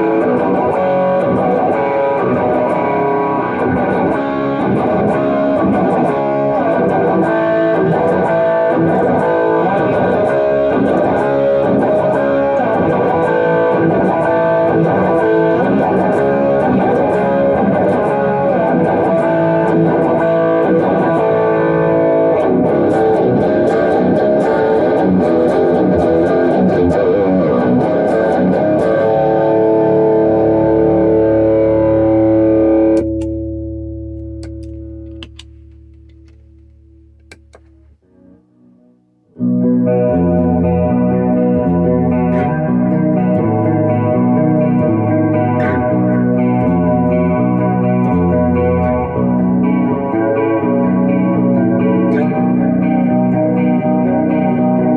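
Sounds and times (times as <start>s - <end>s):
electric guitar chords and riffs: 0.0s - 54.9s.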